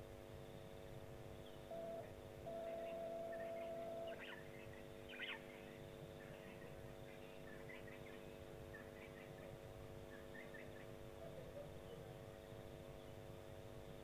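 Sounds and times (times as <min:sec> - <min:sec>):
low hum: 0:00.0 - 0:14.0
faint bird chirps: 0:01.3 - 0:13.6.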